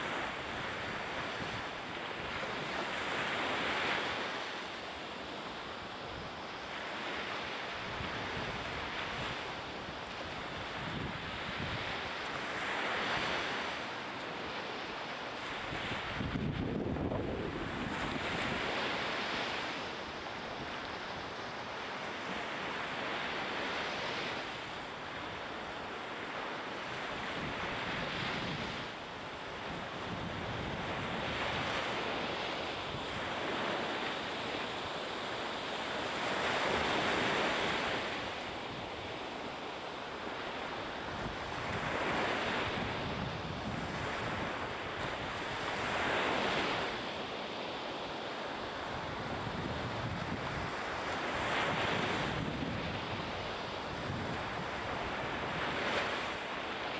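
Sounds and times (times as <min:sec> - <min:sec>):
sea waves: 0:00.0 - 0:56.9
wind: 0:00.0 - 0:56.9.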